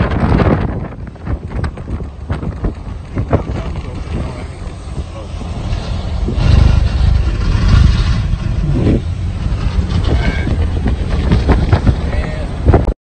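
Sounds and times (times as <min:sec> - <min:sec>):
car interior road rumble: 0:00.0 - 0:12.9.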